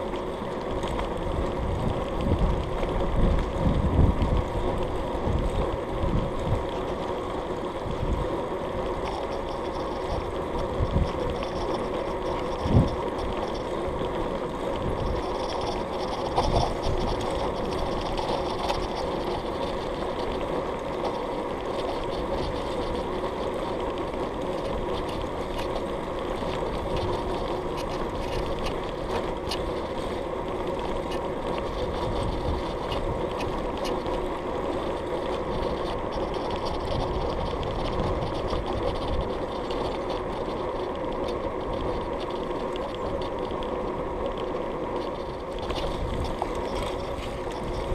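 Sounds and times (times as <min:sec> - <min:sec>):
bicycle tyres humming: 0:00.0 - 0:47.9
wind rumble on microphone: 0:00.0 - 0:47.9.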